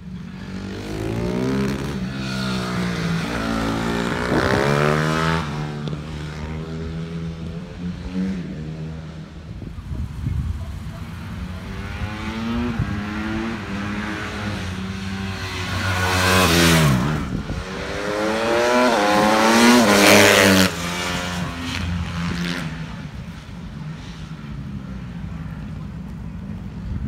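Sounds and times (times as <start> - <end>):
motorcycle engine revving: 0.0 - 9.4, 10.0 - 24.6.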